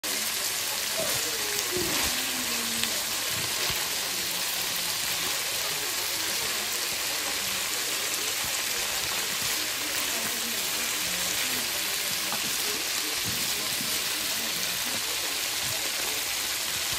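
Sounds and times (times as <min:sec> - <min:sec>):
food sizzling in oil: 0:00.0 - 0:16.9.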